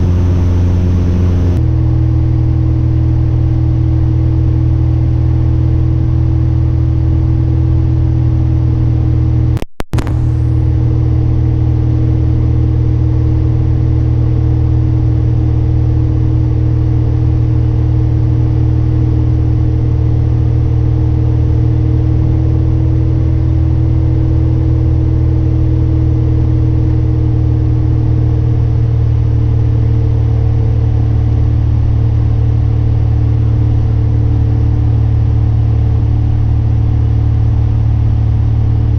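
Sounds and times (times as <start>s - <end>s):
aircraft engine and propeller drone: 0.0s - 9.2s, 10.1s - 38.9s.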